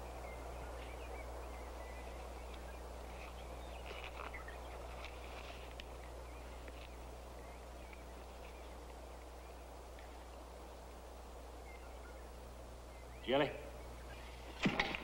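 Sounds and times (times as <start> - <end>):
constant low hum: 0.0 - 15.0
faint bird chirps: 0.0 - 15.0.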